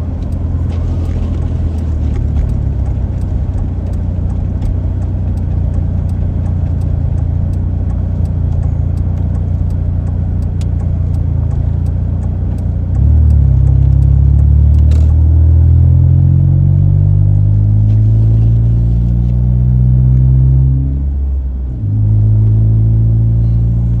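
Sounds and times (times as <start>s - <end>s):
car engine: 0.0s - 24.0s
road noise: 0.0s - 24.0s.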